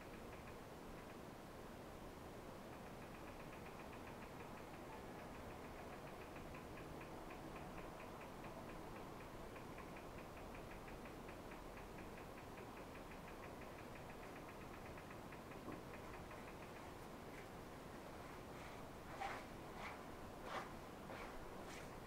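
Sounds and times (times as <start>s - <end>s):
faint fast ticking: 0.0s - 22.0s.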